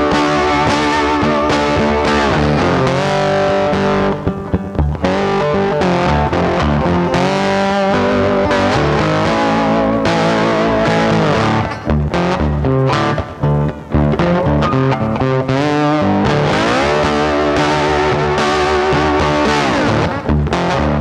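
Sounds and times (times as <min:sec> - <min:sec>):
distorted electric guitar music: 0:00.0 - 0:21.0.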